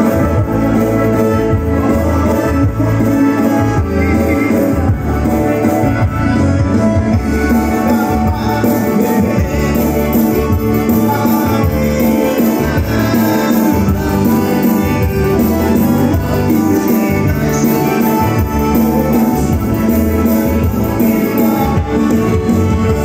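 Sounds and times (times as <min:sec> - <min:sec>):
electric guitar: 0:00.0 - 0:23.0
keyboard: 0:00.0 - 0:23.0.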